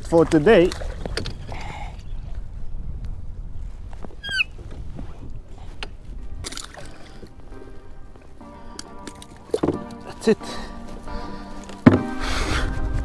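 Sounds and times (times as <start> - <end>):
water lapping around kayak hull: 0.0 - 2.8, 3.7 - 12.9
wind: 0.0 - 13.0.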